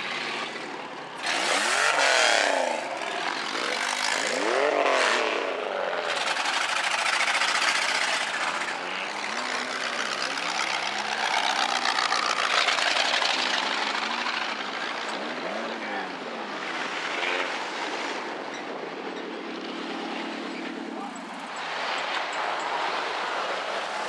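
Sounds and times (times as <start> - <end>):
car engines passing: 0.0 - 24.0.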